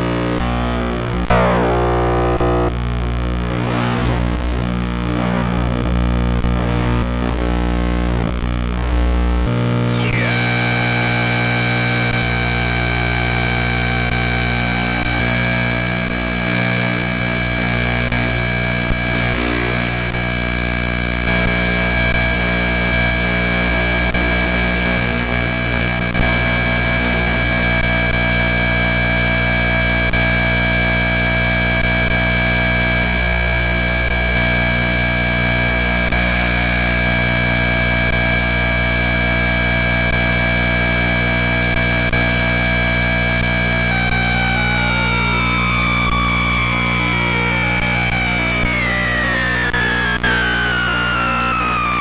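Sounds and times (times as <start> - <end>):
electronic noise drone: 0.0 - 52.0.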